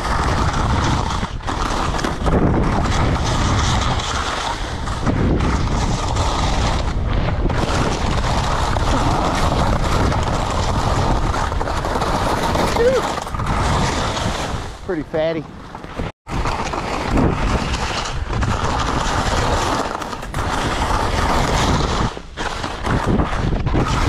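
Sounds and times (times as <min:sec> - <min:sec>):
skis scraping over snow: 0:00.0 - 0:24.0
wind buffeting microphone: 0:00.0 - 0:24.0.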